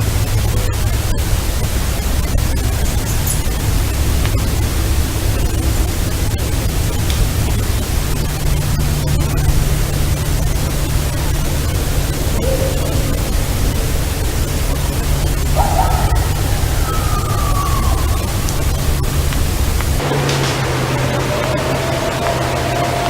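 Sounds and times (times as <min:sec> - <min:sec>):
hiss and static: 0:00.0 - 0:23.0
low hum: 0:00.0 - 0:23.0.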